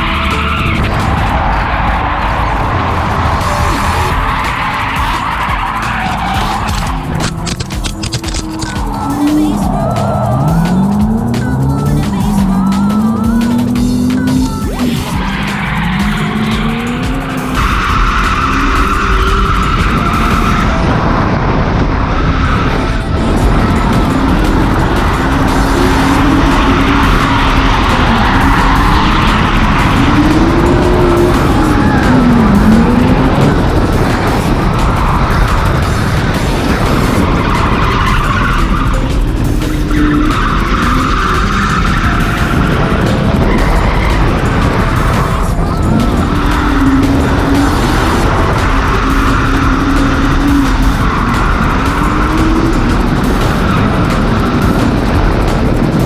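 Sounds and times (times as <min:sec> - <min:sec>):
tyres squealing: 0:00.0 - 0:21.0, 0:22.2 - 0:56.0
car engine at high revs: 0:00.0 - 0:56.0.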